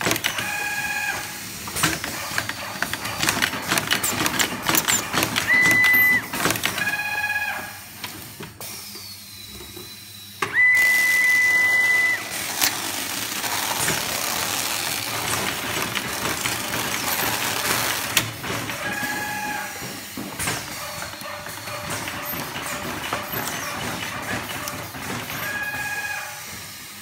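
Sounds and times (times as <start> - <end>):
machine whirring hiss: 0.1 - 27.0.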